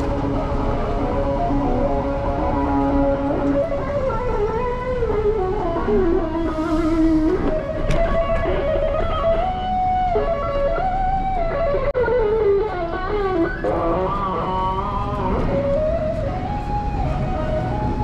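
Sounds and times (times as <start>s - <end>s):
electric guitar lead melody: 0.0s - 18.0s.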